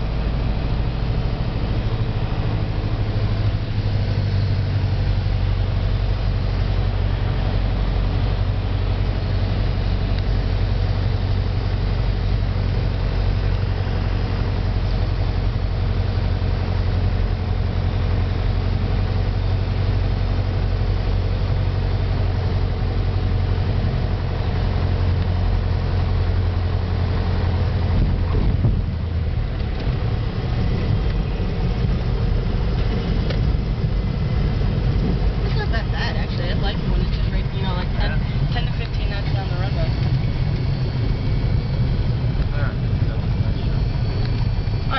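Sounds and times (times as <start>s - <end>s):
small airplane engine droning: 0.0s - 44.9s.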